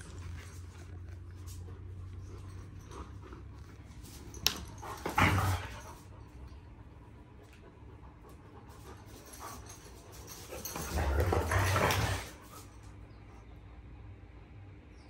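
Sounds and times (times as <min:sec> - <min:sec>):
dogs play-fighting: 0:00.0 - 0:13.5
dogs panting: 0:00.0 - 0:13.6.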